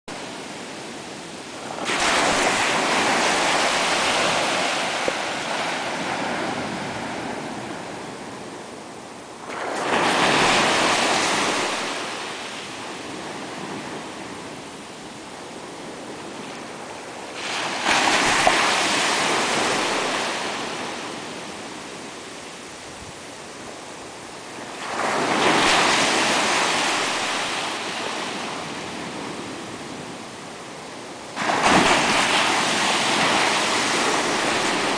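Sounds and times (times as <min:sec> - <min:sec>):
small waves breaking on beach: 0:00.1 - 0:34.9.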